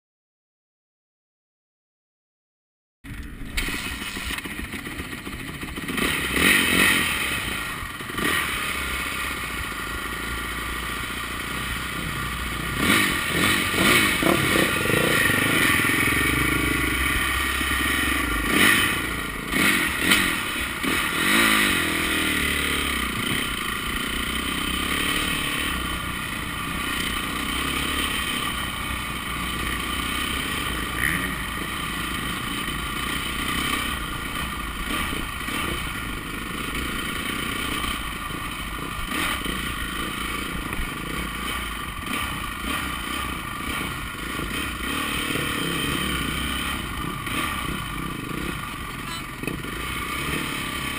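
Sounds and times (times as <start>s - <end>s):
motocross bike engine revving: 3.1s - 50.9s.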